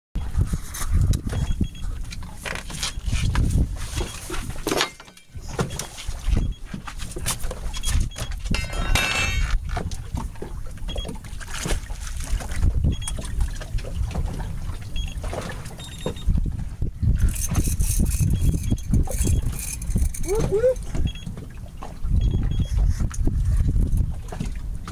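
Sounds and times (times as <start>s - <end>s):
wind rumbling on microphone: 0.2s - 4.7s, 5.3s - 24.9s
water slapping against boat: 0.2s - 24.9s.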